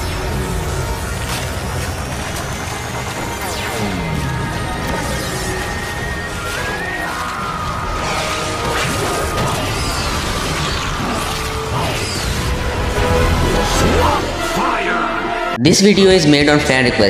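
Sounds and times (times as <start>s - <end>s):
cartoon transformation effects: 0.0s - 14.9s
music: 0.0s - 17.0s.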